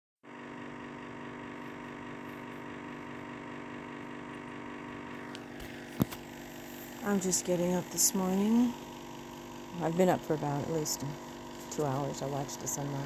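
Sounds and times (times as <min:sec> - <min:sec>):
motor humming: 0:00.3 - 0:13.0.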